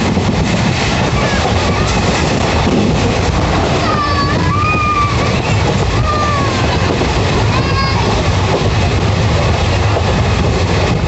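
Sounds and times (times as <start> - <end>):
rush of air from moving train: 0.0 - 11.0
wheels rumbling on rails: 0.0 - 11.0.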